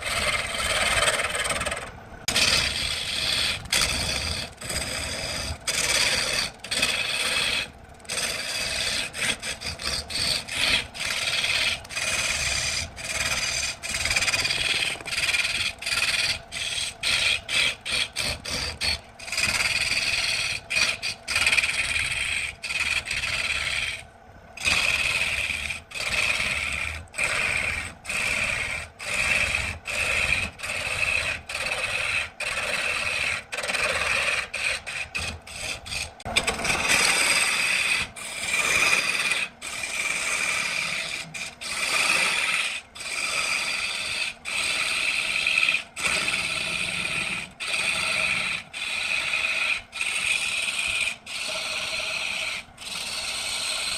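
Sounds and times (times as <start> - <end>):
wood lathe shaving scrape: 0.0 - 53.9.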